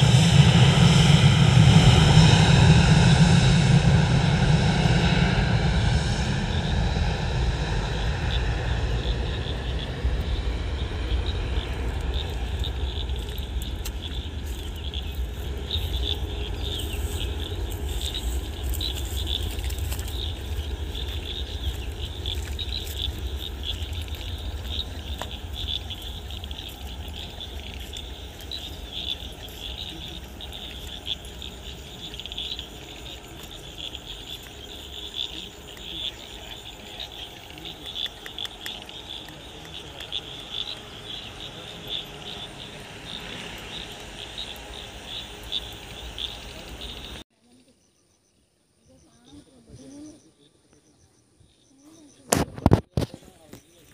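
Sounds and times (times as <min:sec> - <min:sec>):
jet engines roaring: 0:00.0 - 0:47.2
frogs calling: 0:00.0 - 0:53.9
insects calling: 0:00.0 - 0:53.9.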